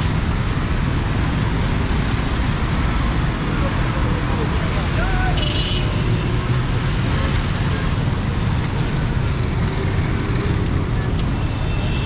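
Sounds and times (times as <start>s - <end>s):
motorcycles passing: 0.0s - 11.3s.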